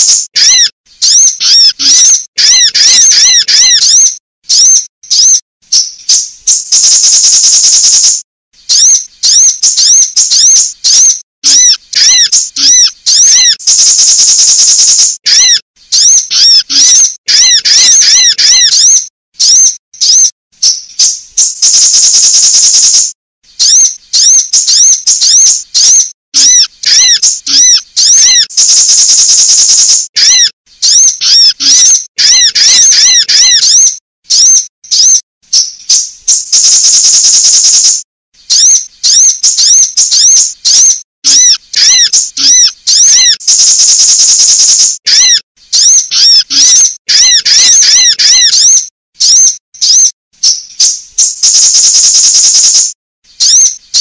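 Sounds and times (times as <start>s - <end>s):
buzzing bird trill: 0.0s - 54.0s
sunbird chirps and twitters: 0.0s - 54.0s.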